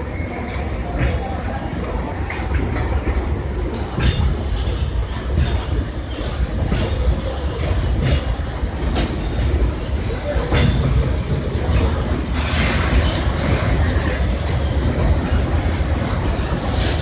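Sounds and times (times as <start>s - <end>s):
freight train rumbling past: 0.0s - 17.0s
train wheels clacking: 0.0s - 17.0s.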